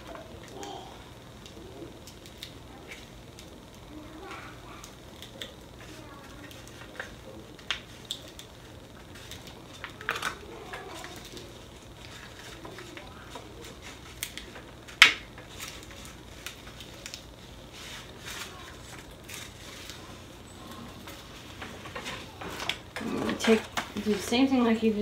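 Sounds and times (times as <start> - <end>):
vinyl and paper rustling: 0.0 - 25.0.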